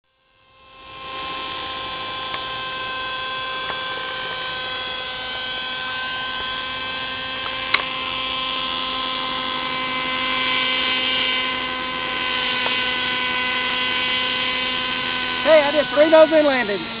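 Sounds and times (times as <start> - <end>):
rc helicopter engine whine: 0.1 - 17.0.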